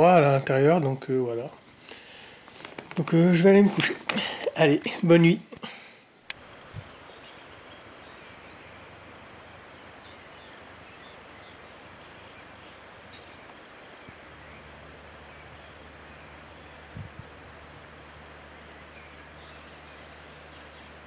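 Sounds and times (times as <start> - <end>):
low steady hum: 0.0 - 21.0
steady hiss: 0.0 - 21.0.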